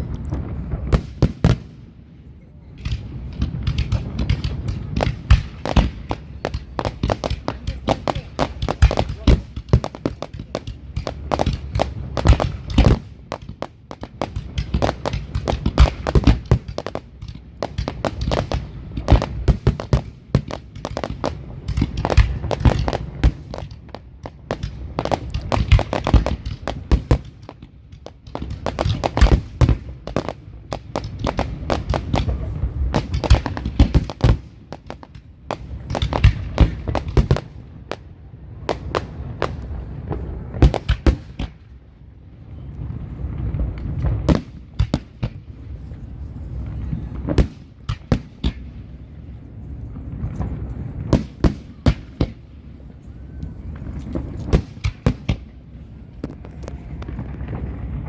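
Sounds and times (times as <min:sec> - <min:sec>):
fireworks booming and banging: 0:00.0 - 0:58.0.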